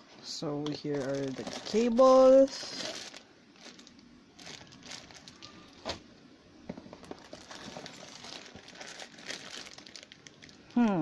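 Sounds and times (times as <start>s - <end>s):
plastic bag crinkling: 0.6s - 5.8s, 6.9s - 11.0s.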